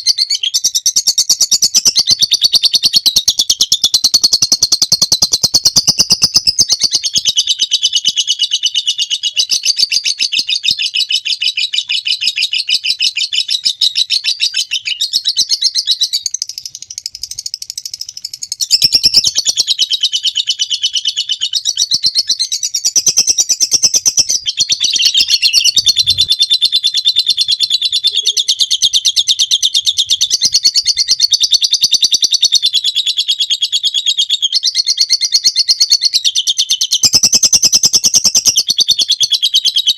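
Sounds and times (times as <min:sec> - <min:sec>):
lovebird chattering trill: 0:00.0 - 0:33.7.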